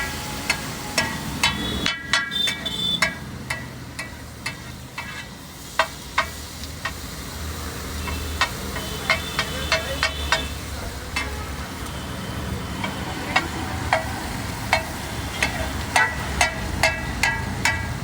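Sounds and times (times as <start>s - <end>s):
metal spatula clanking on iron pan: 0.4s - 7.0s, 8.0s - 11.4s, 12.8s - 18.0s.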